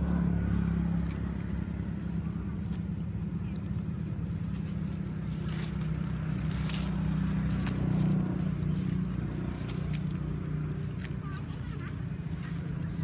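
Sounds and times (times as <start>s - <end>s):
steady low motor hum: 0.0s - 13.0s
rustles: 0.6s - 13.0s.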